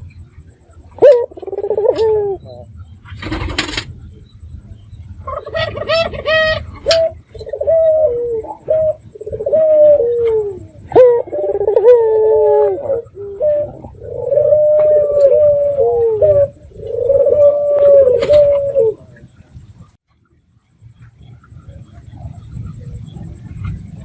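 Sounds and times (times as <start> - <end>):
dove cooing: 0.0 - 19.9.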